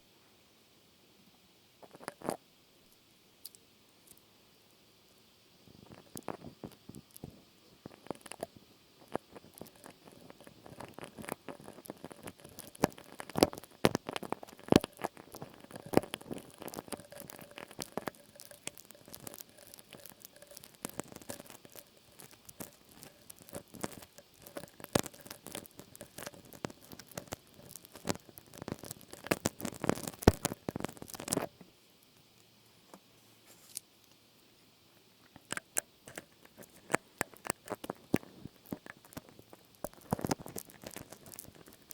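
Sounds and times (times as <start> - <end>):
rapid crackling and clicking: 1.8 - 4.2, 5.1 - 33.1, 35.0 - 41.9.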